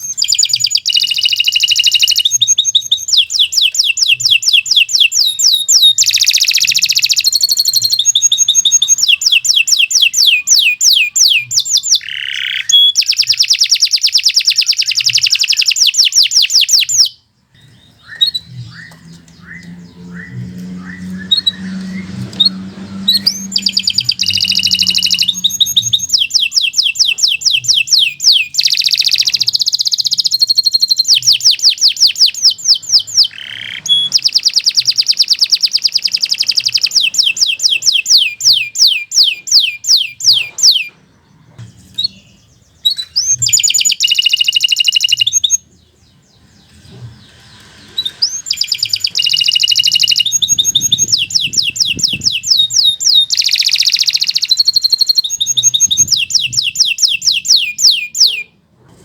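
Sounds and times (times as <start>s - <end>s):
canary trilling song: 0.0s - 58.6s.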